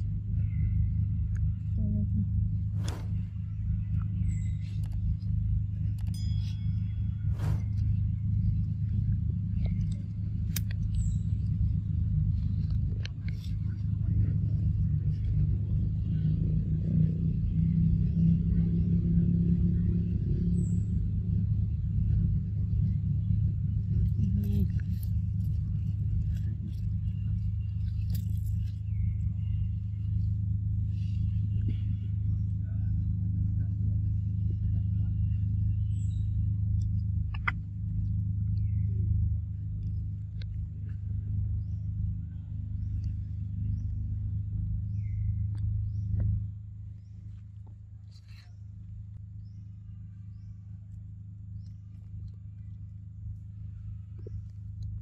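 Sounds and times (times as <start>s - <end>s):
low motor hum: 0.0s - 55.0s
steady low rumble: 0.0s - 55.0s.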